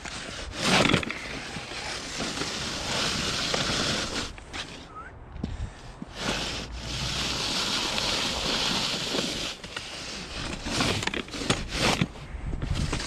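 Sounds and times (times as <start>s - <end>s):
plastic blade scraping snow: 0.0s - 4.9s, 6.0s - 13.0s.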